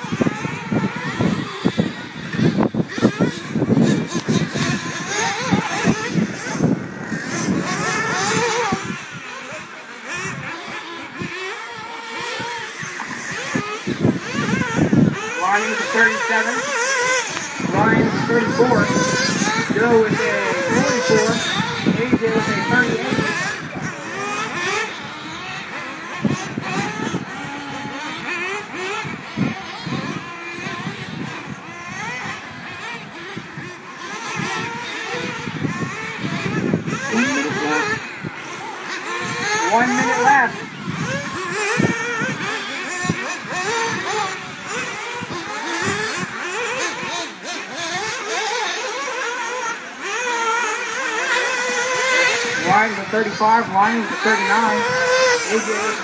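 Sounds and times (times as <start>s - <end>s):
rc car motors whining: 0.0s - 56.0s.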